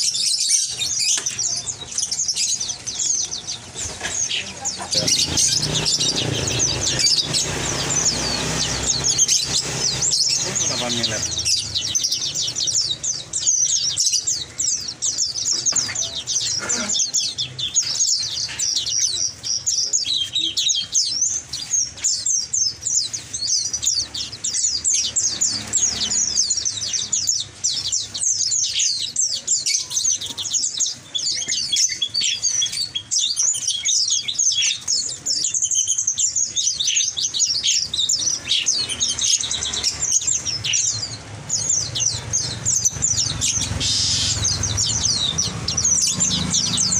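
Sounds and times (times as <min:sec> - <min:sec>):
caged songbirds chirping: 0:00.0 - 0:46.9.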